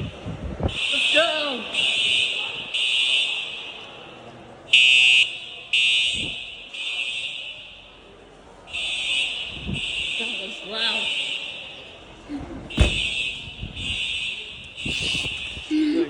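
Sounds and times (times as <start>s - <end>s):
fire alarm horn blasts: 0.7s - 4.1s, 4.7s - 8.1s, 8.7s - 12.0s, 12.7s - 15.7s.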